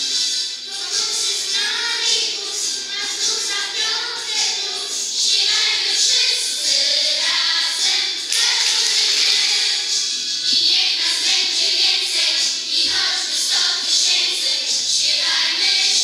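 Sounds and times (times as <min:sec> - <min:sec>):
musical accompaniment: 0:00.0 - 0:16.0
children singing in chorus: 0:00.7 - 0:16.0.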